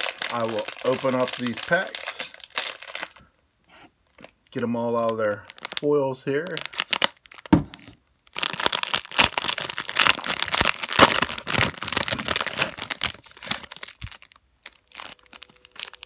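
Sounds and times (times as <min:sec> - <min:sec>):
plastic wrapper crackling: 0:00.0 - 0:03.4, 0:04.0 - 0:16.0.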